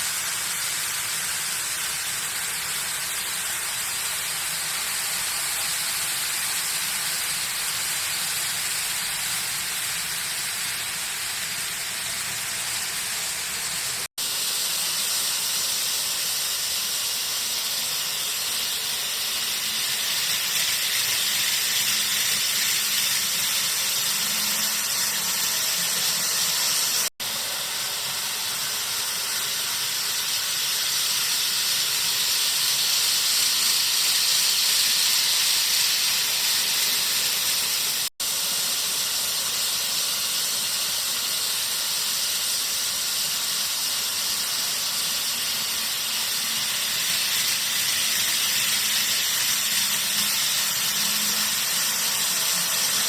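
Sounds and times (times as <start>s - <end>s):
model train whirring on track: 0.0s - 53.0s.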